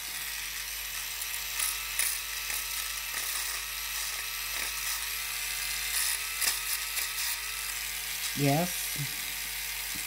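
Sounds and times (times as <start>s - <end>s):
electric nail file humming: 0.0s - 10.0s.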